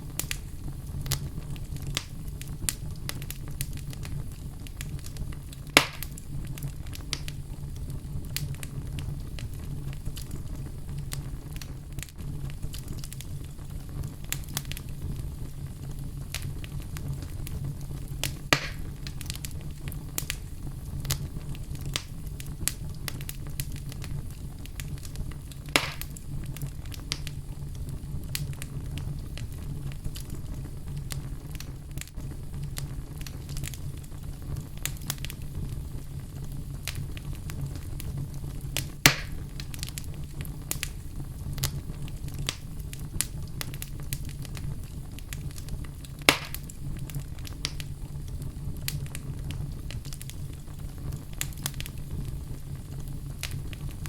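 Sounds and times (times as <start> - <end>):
loud fire pops: 0.0 - 54.0
low fire rumble: 0.0 - 54.0
wood fire crackling: 0.0 - 54.0.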